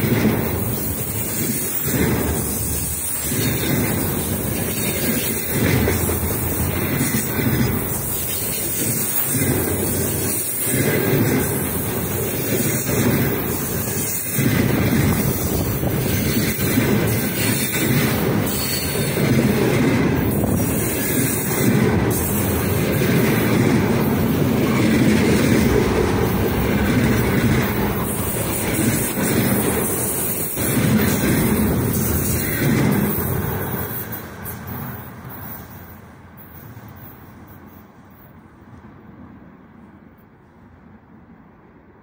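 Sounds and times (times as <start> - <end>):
train wheel clacks: 0.0 - 38.3
freight train wheels rumbling: 0.0 - 42.0.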